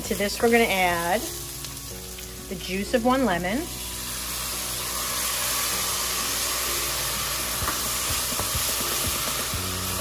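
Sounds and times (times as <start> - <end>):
lemon juice sizzling on onions: 0.0 - 10.0.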